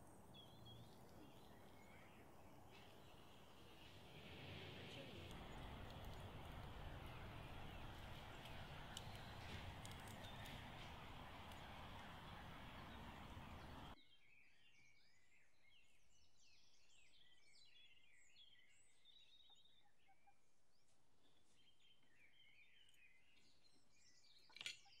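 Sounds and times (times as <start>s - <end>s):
songbirds chirping and twittering: 0.0s - 25.0s.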